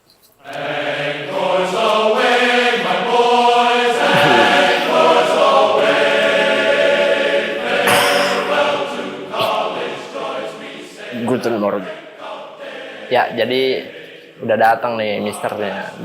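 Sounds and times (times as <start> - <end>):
choir singing held chords: 0.4 - 14.4.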